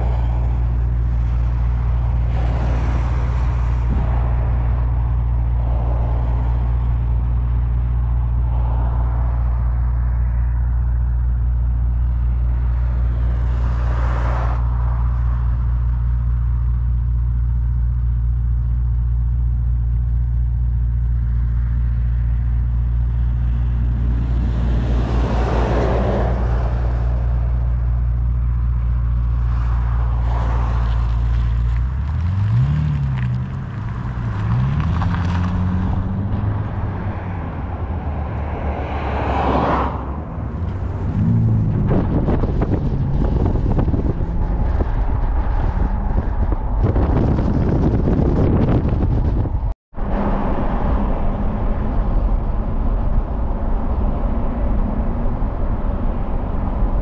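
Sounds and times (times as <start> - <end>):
car engines idling: 0.0 - 13.8, 14.6 - 57.0
vehicles passing on road: 0.0 - 57.0.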